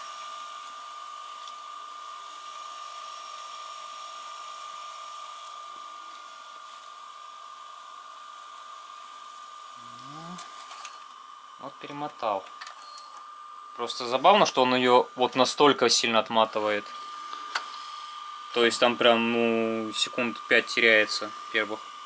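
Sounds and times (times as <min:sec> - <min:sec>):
tape deck motor whine: 0:00.0 - 0:22.0.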